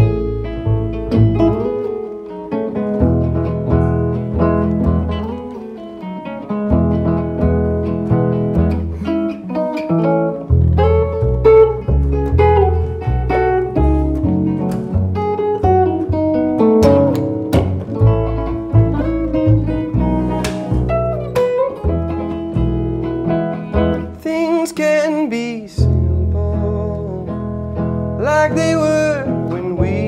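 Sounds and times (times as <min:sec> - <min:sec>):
plucked double bass: 0:00.0 - 0:05.7, 0:06.4 - 0:24.2, 0:25.8 - 0:30.0
guitar melody with sliding notes: 0:00.0 - 0:30.0.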